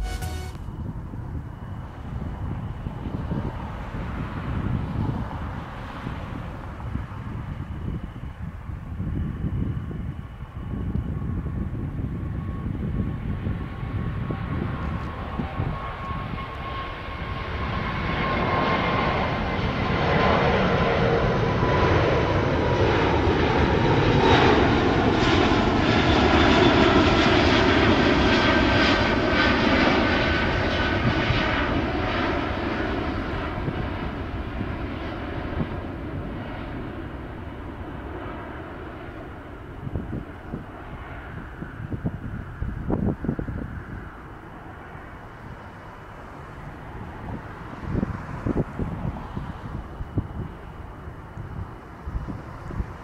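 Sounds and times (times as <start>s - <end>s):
jet airliner roar: 0.0s - 53.0s.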